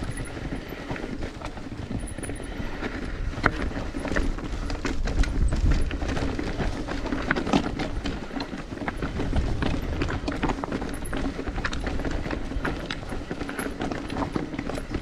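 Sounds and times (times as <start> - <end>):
mountain bike rattling on trail: 0.0 - 15.0.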